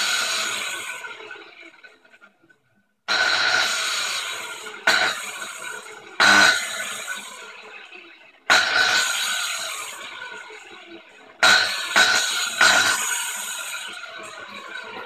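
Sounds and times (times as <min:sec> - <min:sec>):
angle grinder whining: 0:00.0 - 0:02.3, 0:03.1 - 0:15.0.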